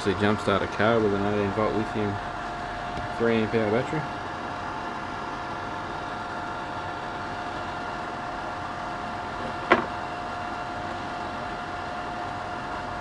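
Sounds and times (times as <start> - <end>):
fan whirring hum: 0.0 - 13.0.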